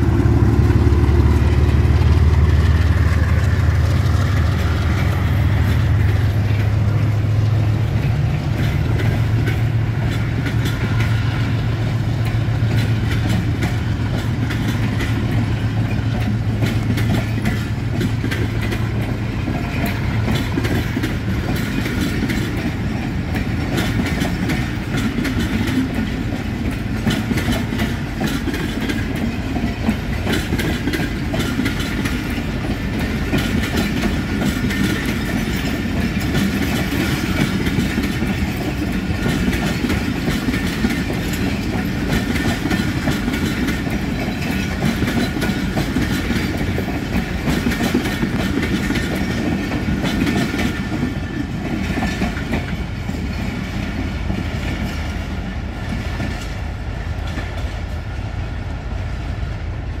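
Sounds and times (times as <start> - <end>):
train wheels clicking over rail joints: 0.0 - 60.0.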